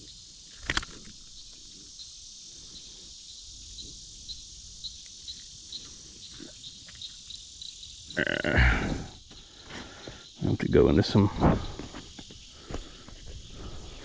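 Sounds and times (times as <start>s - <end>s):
insects singing: 0.0s - 14.0s
repeating insect chirp: 0.0s - 14.0s.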